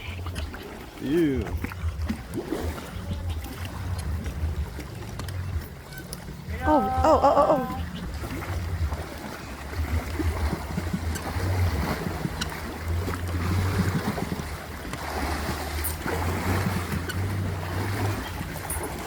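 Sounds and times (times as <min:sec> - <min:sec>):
water sloshing and splashing: 0:00.0 - 0:19.0
wind rumbling on microphone: 0:00.0 - 0:19.0.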